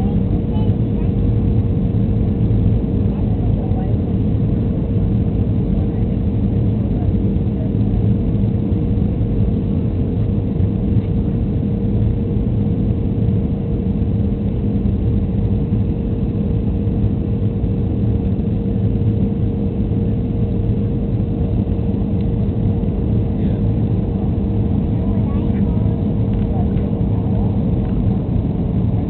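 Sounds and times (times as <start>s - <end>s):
jet engine rumble: 0.0s - 29.0s
mid-pitched hum: 0.0s - 29.0s.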